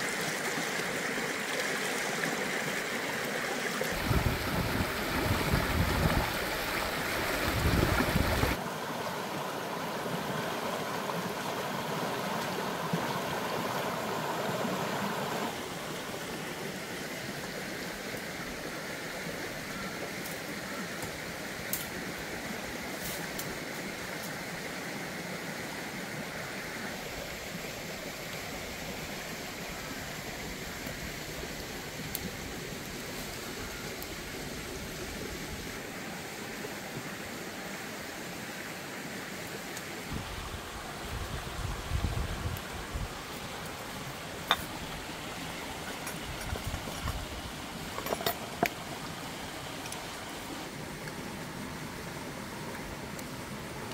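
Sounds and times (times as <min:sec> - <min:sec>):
flowing stream water: 0:00.0 - 0:53.9.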